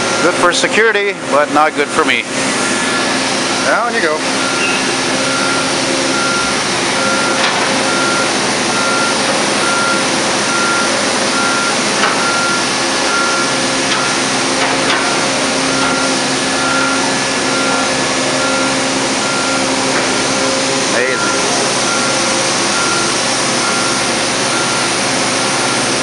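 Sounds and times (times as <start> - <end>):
construction machinery running: 0.0 - 26.0
backup alarm beeping: 0.1 - 0.5, 2.9 - 26.0.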